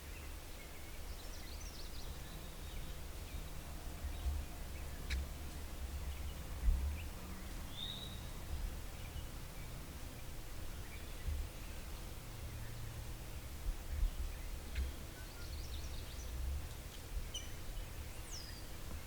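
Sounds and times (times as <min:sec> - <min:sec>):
songbird chirps: 0:00.0 - 0:19.0
wind rumble on microphone: 0:00.1 - 0:19.0.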